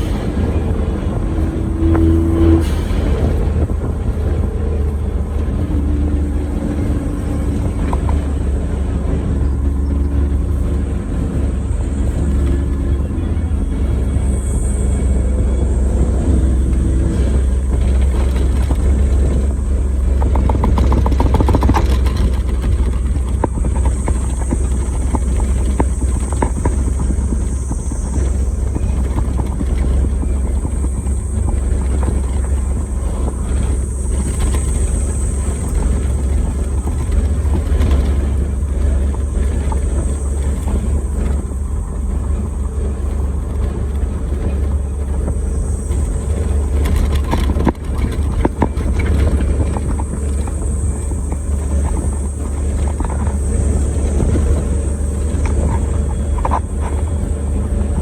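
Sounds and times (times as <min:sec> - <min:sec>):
small car engine droning: 0:00.0 - 0:58.0
tyre road noise: 0:00.0 - 0:58.0.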